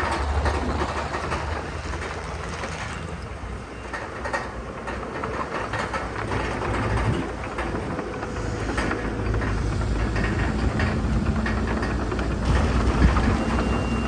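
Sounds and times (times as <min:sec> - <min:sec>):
heavy diesel machinery running: 0:00.0 - 0:14.0
steel crawler tracks clattering: 0:00.0 - 0:14.0.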